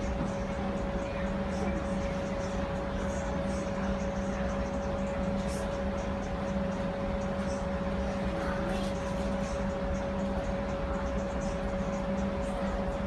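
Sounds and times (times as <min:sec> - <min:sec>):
streetcar interior hum: 0:00.0 - 0:13.0.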